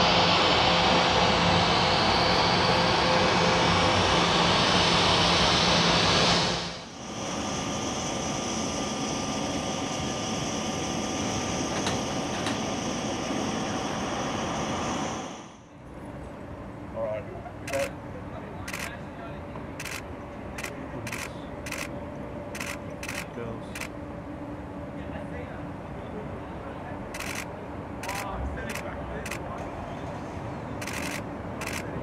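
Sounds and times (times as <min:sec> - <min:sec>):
high engine whine: 0:00.0 - 0:32.0
jet engines running: 0:00.0 - 0:32.0.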